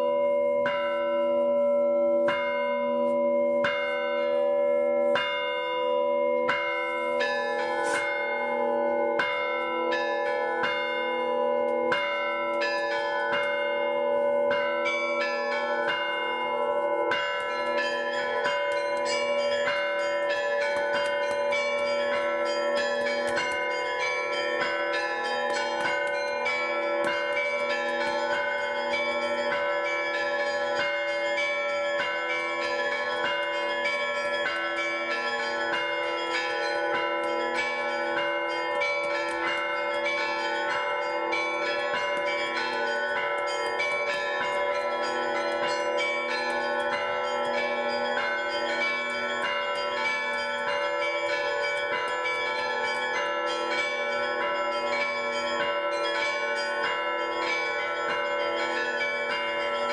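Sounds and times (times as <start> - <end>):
large bells ringing: 0.0 - 59.9
small bells struck quickly: 5.2 - 59.9.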